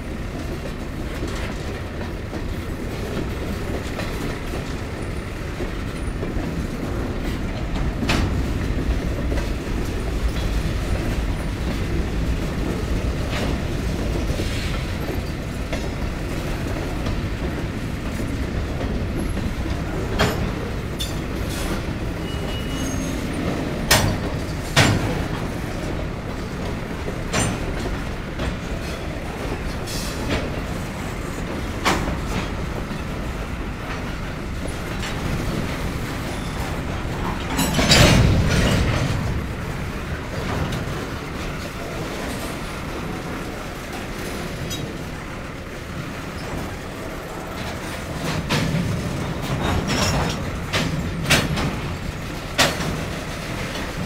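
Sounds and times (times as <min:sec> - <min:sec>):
train cars clanking: 0:00.0 - 0:54.0
train wheels rumbling on track: 0:00.0 - 0:54.0.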